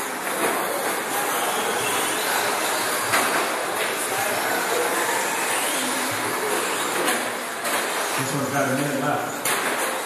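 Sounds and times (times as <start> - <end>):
rc truck motors whining: 0.0 - 10.0.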